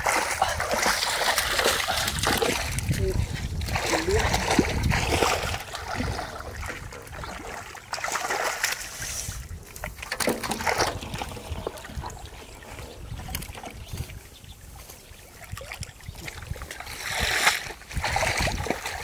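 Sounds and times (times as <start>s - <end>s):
muddy water splashing: 0.0s - 19.0s.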